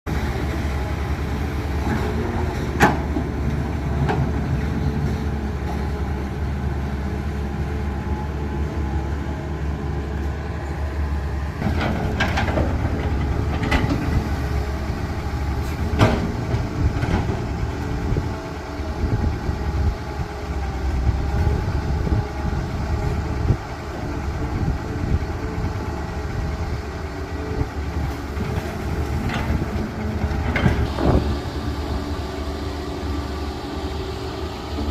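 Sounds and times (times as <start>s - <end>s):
diesel engine low rumble: 0.1s - 34.9s.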